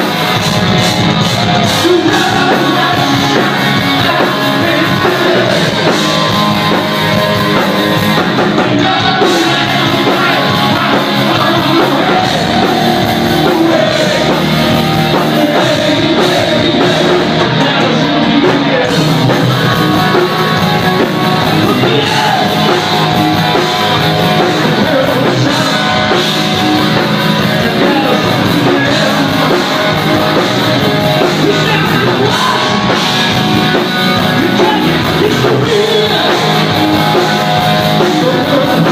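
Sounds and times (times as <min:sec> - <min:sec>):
loud rock music with singing: 0:00.0 - 0:38.9.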